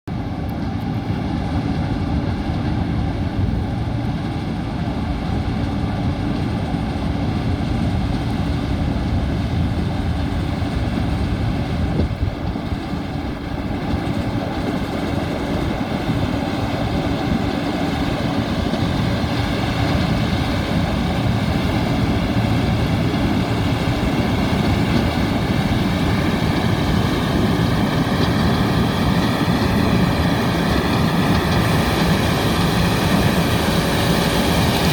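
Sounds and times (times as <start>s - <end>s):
combine engine and machinery drone: 0.1s - 34.9s.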